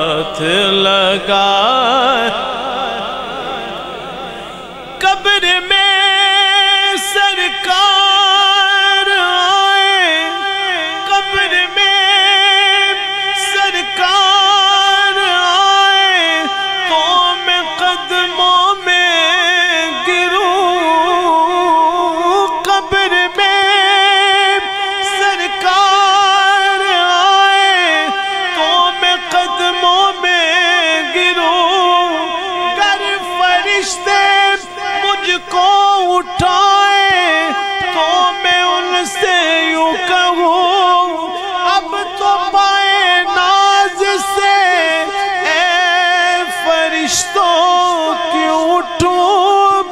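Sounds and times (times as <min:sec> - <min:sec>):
man singing into a microphone: 0:00.0 - 0:49.9.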